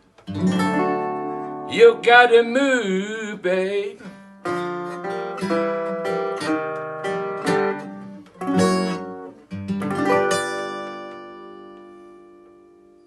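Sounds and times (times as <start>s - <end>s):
acoustic blues guitar: 0.0s - 13.0s.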